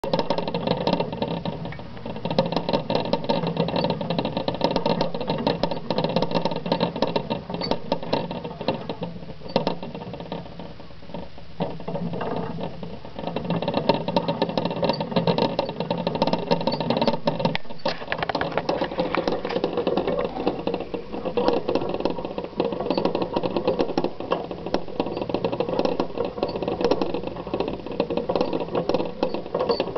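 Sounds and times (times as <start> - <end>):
exercise wheel clicking and rattling: 0.0 - 29.9.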